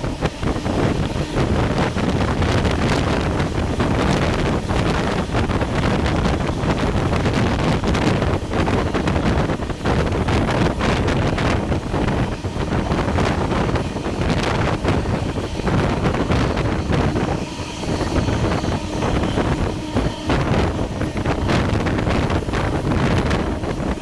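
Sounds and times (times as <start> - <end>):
train running noise: 0.0 - 24.0
wind buffeting microphone: 0.0 - 24.0.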